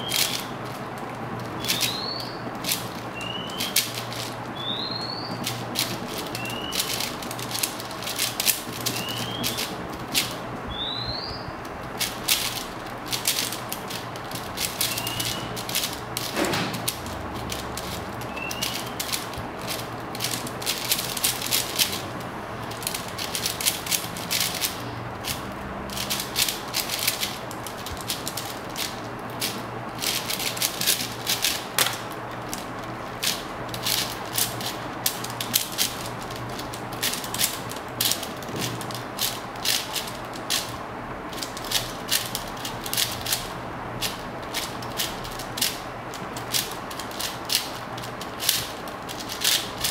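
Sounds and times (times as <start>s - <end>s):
puzzle cube plastic clicking: 0.0s - 4.8s, 5.4s - 10.4s, 11.8s - 22.0s, 22.7s - 40.7s, 44.0s - 49.9s.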